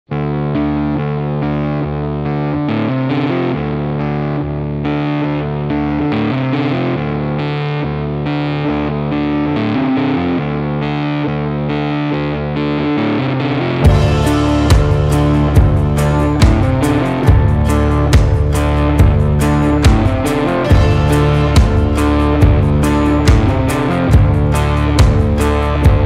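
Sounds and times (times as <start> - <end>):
distorted electric guitar riff: 0.1 - 26.0.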